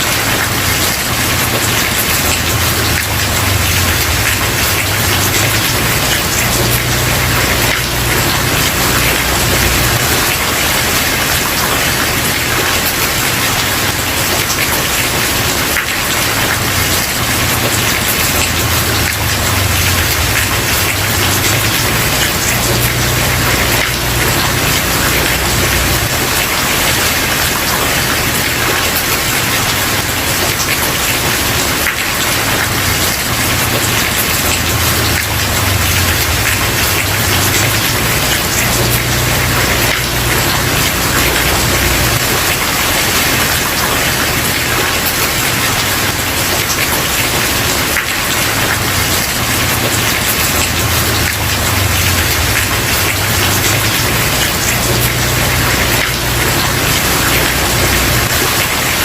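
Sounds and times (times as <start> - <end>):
rain on a wooden porch: 0.0 - 59.0.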